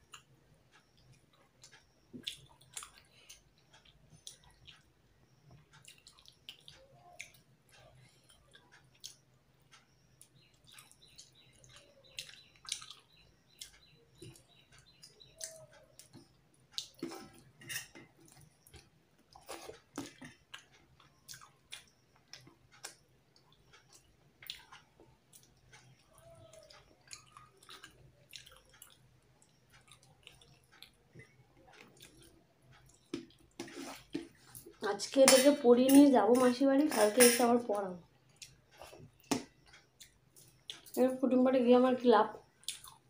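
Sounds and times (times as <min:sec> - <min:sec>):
chewing: 0:00.1 - 0:34.8, 0:42.4 - 0:43.0.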